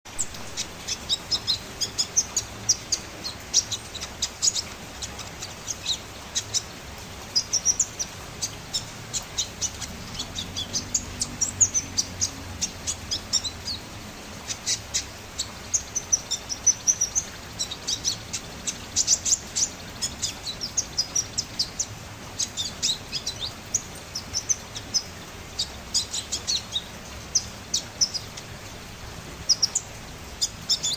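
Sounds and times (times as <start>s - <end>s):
songbird chirping: 0.1s - 30.9s.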